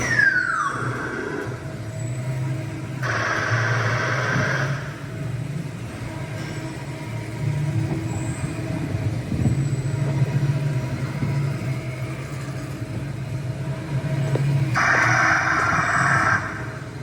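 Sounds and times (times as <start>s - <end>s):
carousel ride mechanical hum: 0.0s - 17.0s.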